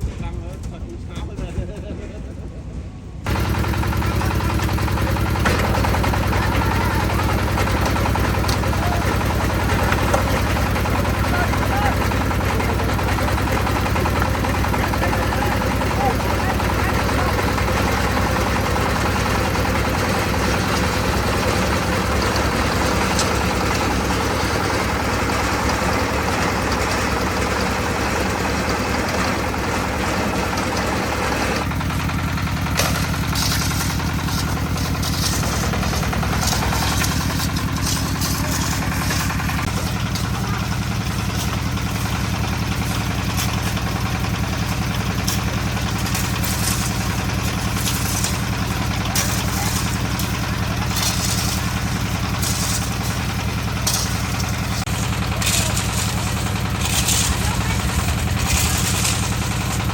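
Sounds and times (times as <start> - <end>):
concrete mixer engine running: 2.9 - 59.9.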